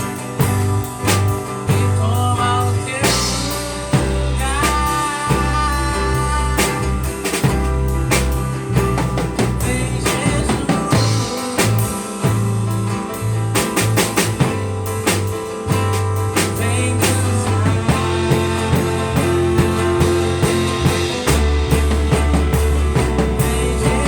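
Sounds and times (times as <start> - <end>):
bass line low notes: 0.0 - 24.0
drum kit steady beat: 0.0 - 24.0
guitar: 0.0 - 24.0.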